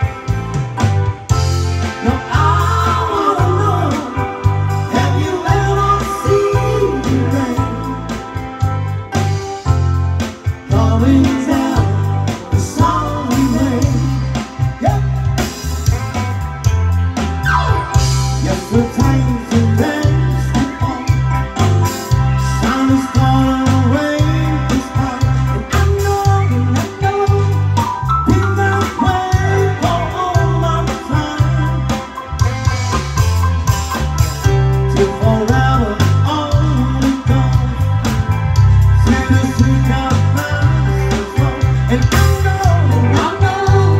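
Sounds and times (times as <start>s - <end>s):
bass guitar: 0.0s - 43.9s
drum kit: 0.0s - 43.9s
electric guitar: 0.0s - 43.9s
keyboard: 0.0s - 43.9s
live band playing pop song: 0.0s - 43.9s.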